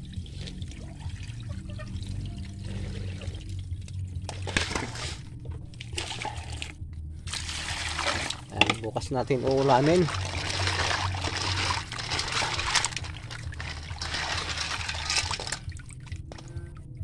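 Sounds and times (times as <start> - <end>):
water sloshing in a metal basin: 0.0 - 16.8.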